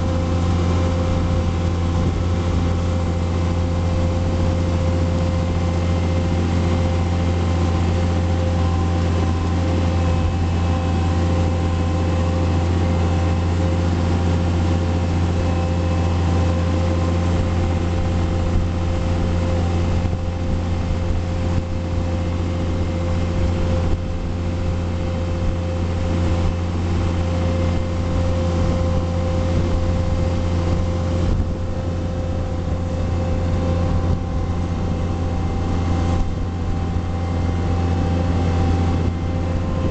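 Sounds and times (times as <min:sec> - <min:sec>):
diesel sprayer droning: 0:00.0 - 0:39.9
steady whine: 0:00.0 - 0:39.9.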